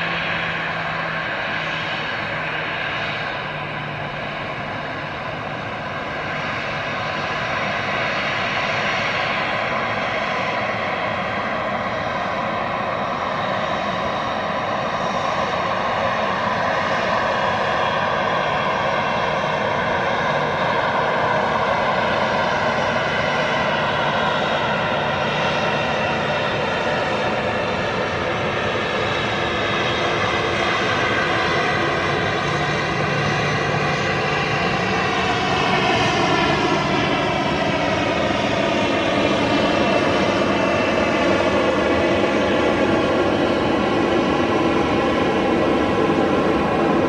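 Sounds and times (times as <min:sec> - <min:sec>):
jet engines running: 0:00.0 - 0:47.0.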